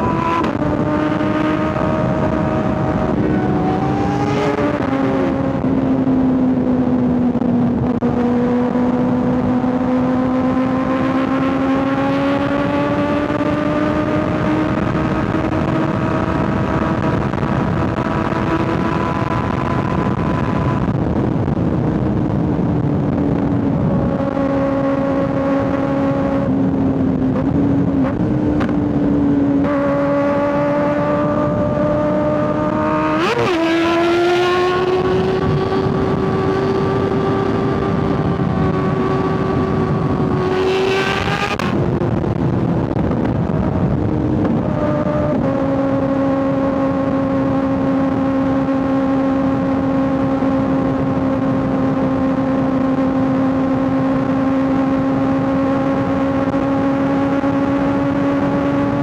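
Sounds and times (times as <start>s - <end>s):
motorcycle engine and exhaust: 0.0s - 59.0s
wind rush: 0.0s - 59.0s.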